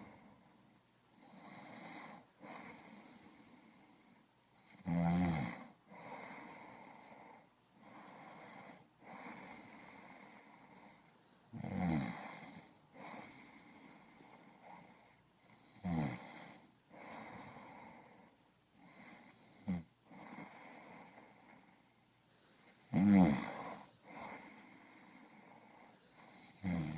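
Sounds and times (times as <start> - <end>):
soft breathing: 0.0 - 4.7, 5.7 - 26.9
person snoring: 1.2 - 15.0, 15.6 - 21.8, 22.6 - 26.9.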